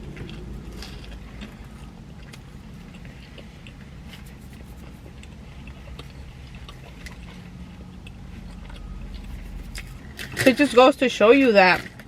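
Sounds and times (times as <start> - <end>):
person chewing food: 0.0 - 10.4
steady low hum: 0.0 - 10.8.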